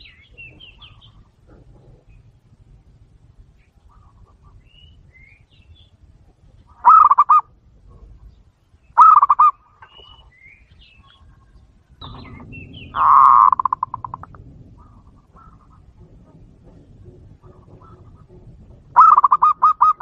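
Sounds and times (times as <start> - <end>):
rattling bird calls: 0.0 - 20.0.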